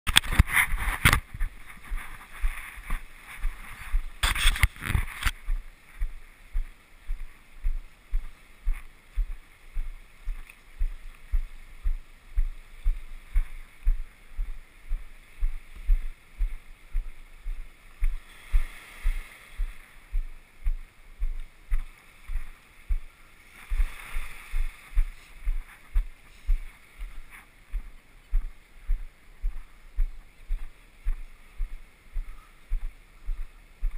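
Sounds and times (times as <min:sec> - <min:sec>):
footsteps on wooden boardwalk: 0:00.2 - 0:33.9.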